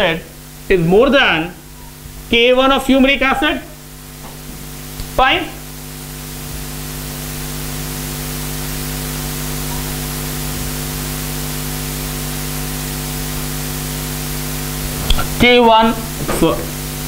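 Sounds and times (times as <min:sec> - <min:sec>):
low electrical hum: 0:00.0 - 0:17.0
steady hiss: 0:00.0 - 0:17.0.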